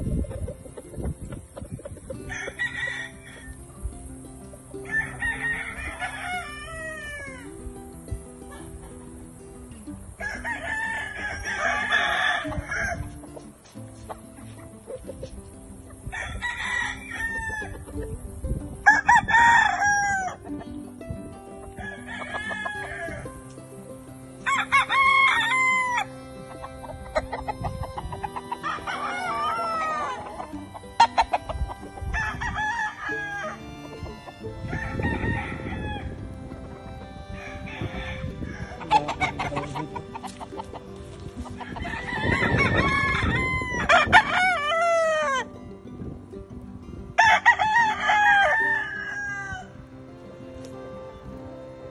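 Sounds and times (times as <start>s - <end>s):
roosters crowing: 1.9s - 7.7s, 8.4s - 18.1s, 18.8s - 20.7s, 21.5s - 45.6s, 47.2s - 51.9s.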